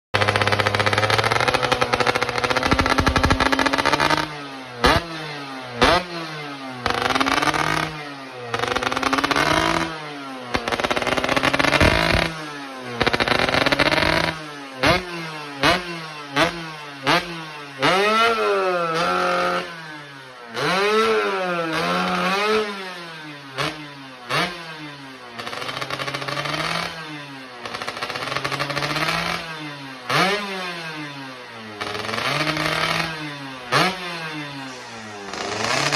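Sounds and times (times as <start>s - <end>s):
two-stroke engine revving: 0.1s - 35.9s.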